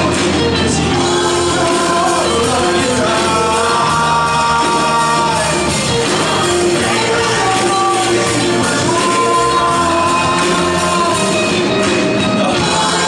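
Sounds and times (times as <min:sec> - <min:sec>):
men singing into microphones: 0:00.7 - 0:13.0
large choir singing: 0:00.8 - 0:11.7, 0:12.3 - 0:13.0.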